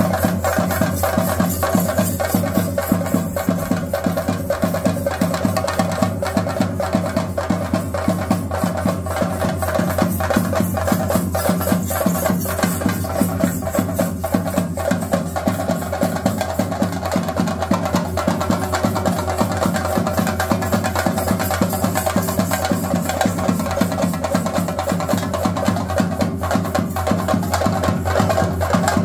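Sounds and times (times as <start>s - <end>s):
drums beaten in fast rhythm: 0.0s - 29.0s.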